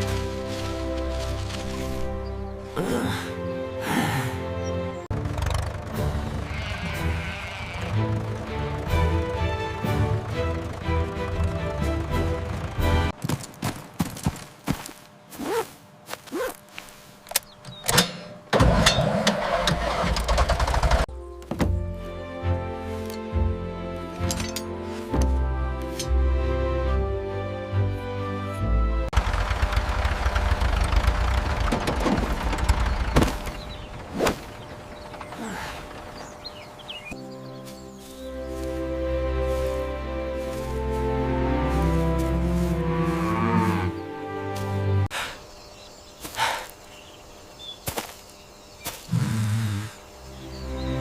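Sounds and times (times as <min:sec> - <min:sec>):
engine rumble: 0:00.0 - 0:14.0, 0:14.8 - 0:51.0.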